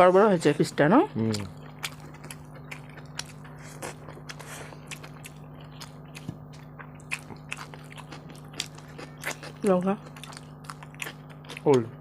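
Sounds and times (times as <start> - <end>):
steady low hum: 0.0 - 12.0
person chewing food: 1.1 - 12.0.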